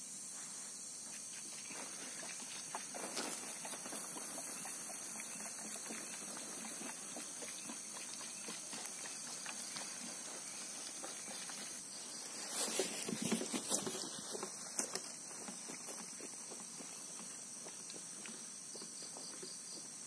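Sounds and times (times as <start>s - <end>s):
steady high-pitched hiss: 0.0s - 20.0s
footsteps on forest floor: 1.0s - 19.8s.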